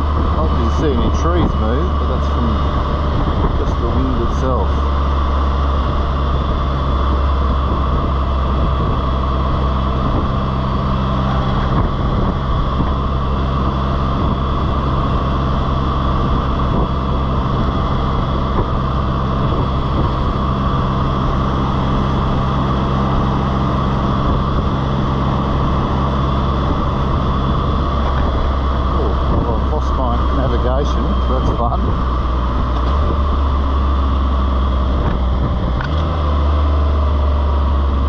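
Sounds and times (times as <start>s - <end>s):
motorcycle engine hum: 0.0s - 38.0s
wind noise: 0.0s - 38.0s.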